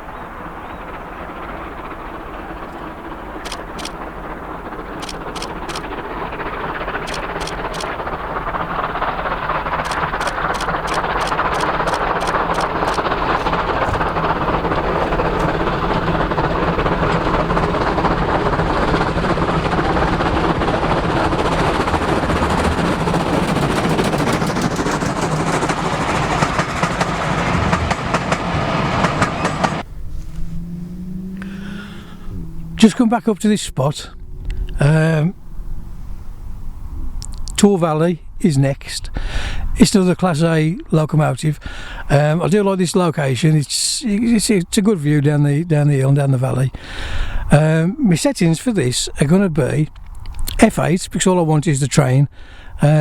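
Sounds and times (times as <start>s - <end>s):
steam train passing: 0.0s - 53.0s.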